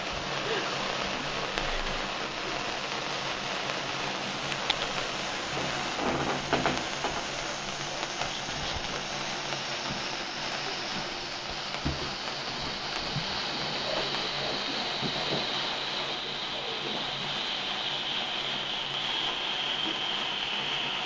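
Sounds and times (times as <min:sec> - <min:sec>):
firework spraying sparks: 0:00.0 - 0:21.0.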